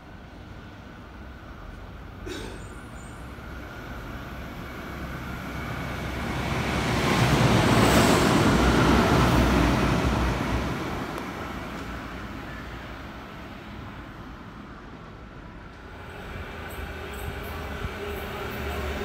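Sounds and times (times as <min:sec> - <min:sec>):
train passing by: 0:00.0 - 0:19.0.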